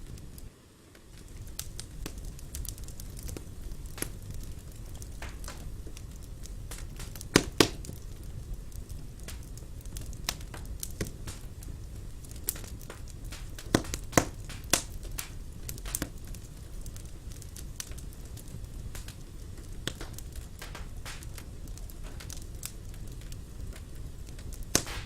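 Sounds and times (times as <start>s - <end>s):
low rumble of burning logs: 0.0s - 25.0s
wood fire crackling: 0.0s - 25.0s.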